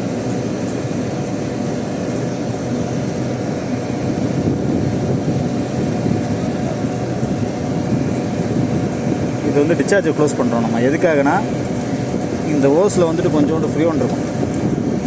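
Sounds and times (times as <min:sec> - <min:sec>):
air conditioner unit humming: 0:00.0 - 0:15.0.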